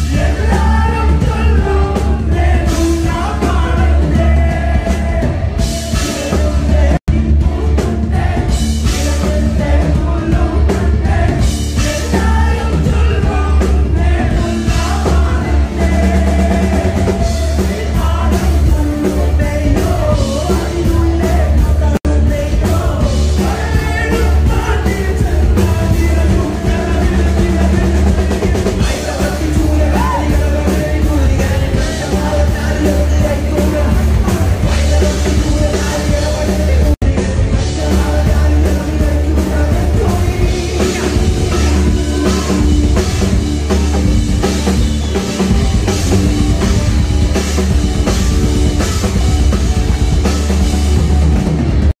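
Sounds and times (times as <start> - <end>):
man singing into microphone: 0.0 - 43.3
electric guitar: 0.0 - 51.9
drum kit: 0.0 - 52.0.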